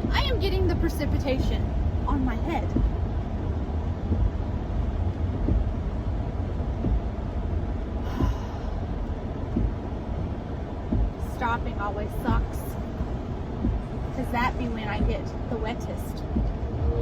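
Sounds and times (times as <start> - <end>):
wind and road noise in car: 0.0 - 17.0.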